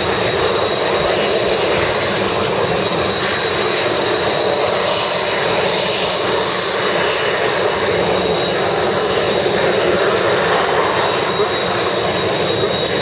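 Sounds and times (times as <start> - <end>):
jet engines rushing and whining: 0.0 - 13.0.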